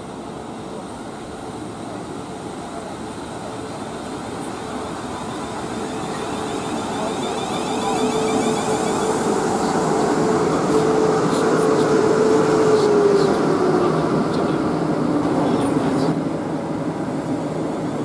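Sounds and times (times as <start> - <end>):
train running rumble: 0.9 - 18.0.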